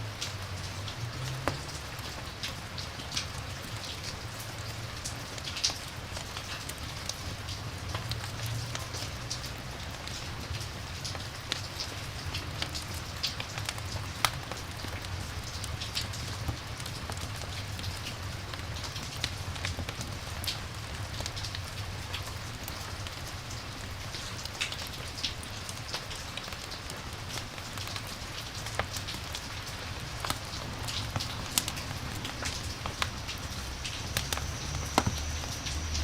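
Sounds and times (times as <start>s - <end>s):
steady rain hiss: 0.0s - 36.0s
fire crackles: 0.1s - 36.0s.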